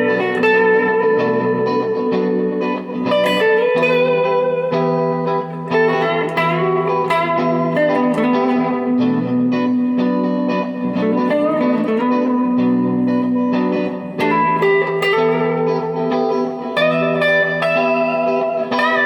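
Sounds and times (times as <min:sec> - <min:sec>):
electric guitar jam: 0:00.0 - 0:19.0.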